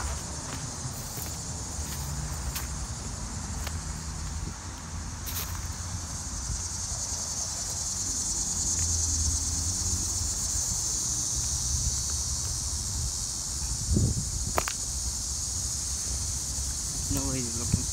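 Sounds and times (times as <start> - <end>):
high-pitched insect chorus: 0.0 - 17.9.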